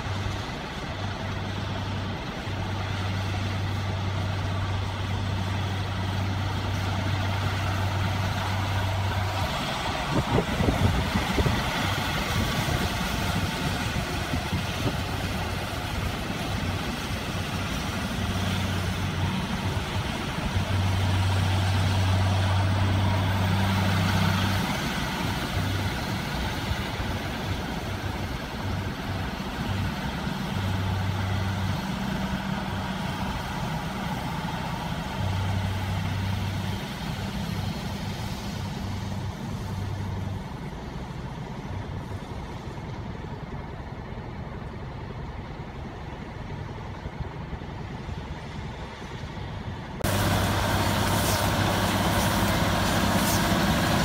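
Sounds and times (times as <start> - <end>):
baler machinery noise: 0.0 - 54.0
tractor diesel engine running: 0.0 - 54.0.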